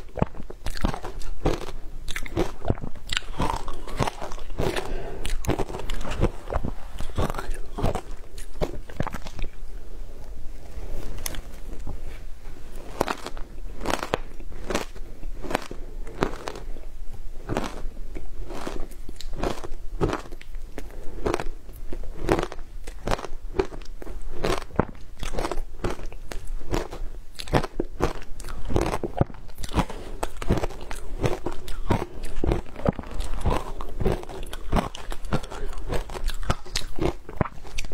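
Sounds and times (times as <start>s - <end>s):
ice crunching while chewed: 0.0s - 9.6s, 12.8s - 16.8s, 17.4s - 37.9s.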